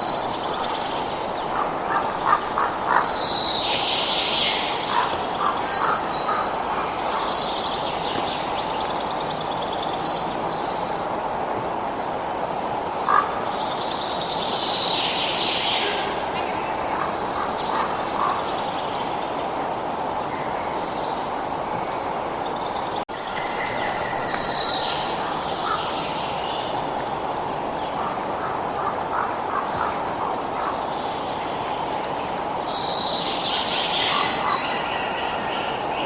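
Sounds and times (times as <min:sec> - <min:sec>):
wild birds chirping: 0:00.0 - 0:11.2, 0:12.6 - 0:36.0.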